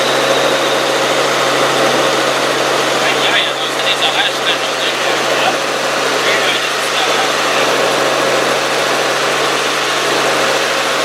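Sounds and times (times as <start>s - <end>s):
helicopter turbine and rotor drone: 0.0s - 11.0s.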